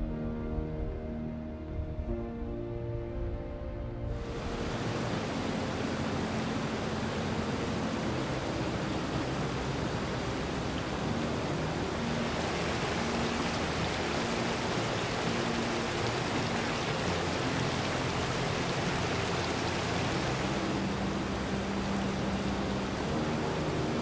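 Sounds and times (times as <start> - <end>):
creek splashing over rocks: 4.2 - 24.0.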